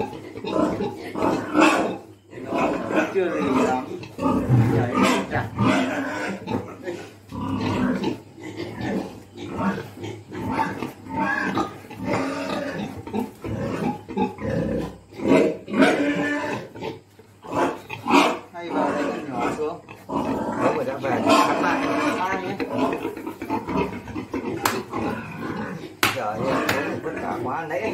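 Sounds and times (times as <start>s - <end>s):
pigs grunting: 0.0s - 27.9s.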